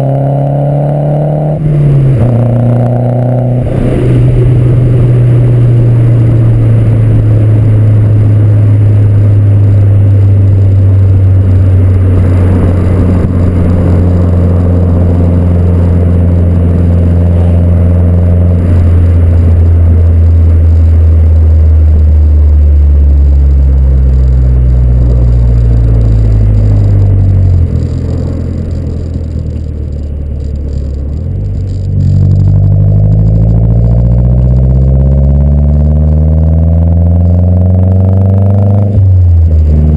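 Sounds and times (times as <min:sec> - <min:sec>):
turbocharged car engine exhaust: 0:00.0 - 0:39.9.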